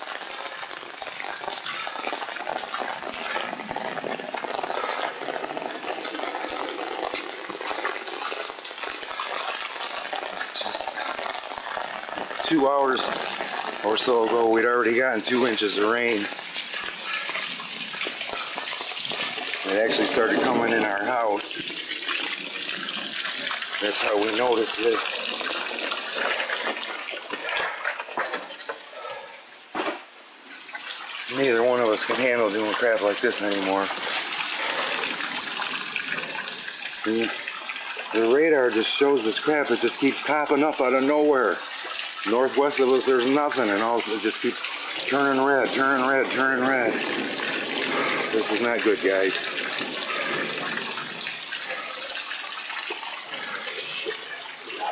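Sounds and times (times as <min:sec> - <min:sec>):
heavy rain pouring: 0:00.0 - 0:29.3, 0:30.4 - 0:54.9
floodwater rushing and splashing: 0:00.0 - 0:54.9.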